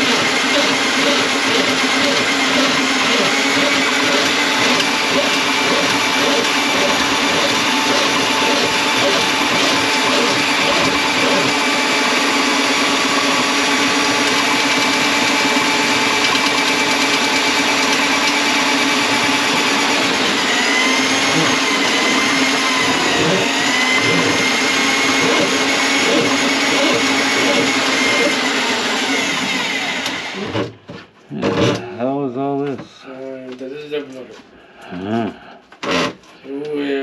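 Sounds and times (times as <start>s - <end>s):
drain auger motor running: 0.0s - 30.7s.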